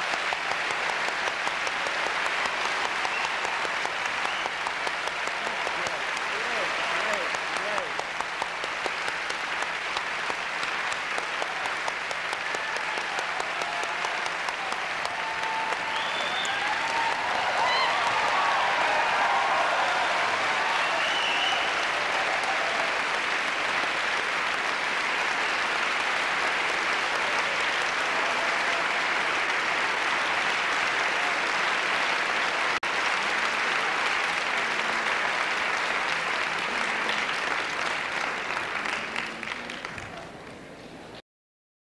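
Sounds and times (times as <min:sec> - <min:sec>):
audience applauding: 0:00.0 - 0:40.6.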